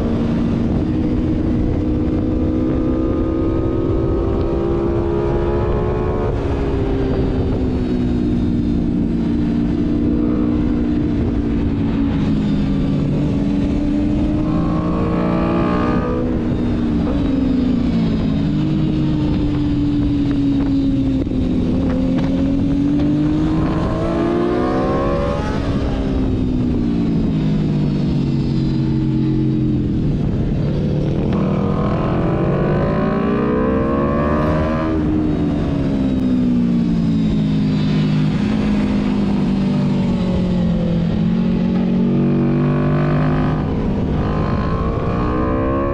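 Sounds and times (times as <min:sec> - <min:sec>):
motorcycle engine revving: 0:00.0 - 0:45.9
wind rushing: 0:00.0 - 0:45.9.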